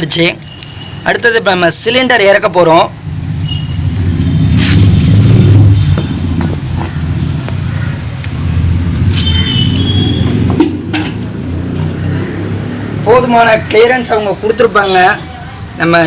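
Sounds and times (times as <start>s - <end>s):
vehicle engine rumbling: 2.7s - 15.8s.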